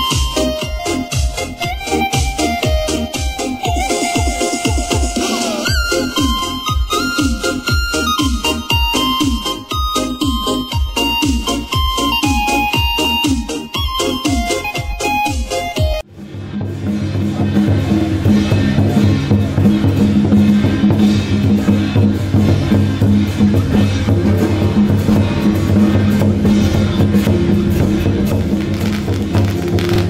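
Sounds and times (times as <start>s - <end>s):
drums playing: 0.0s - 30.0s.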